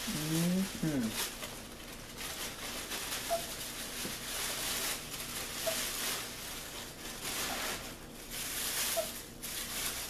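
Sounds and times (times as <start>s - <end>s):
packing paper and plastic rustling: 0.0s - 10.0s.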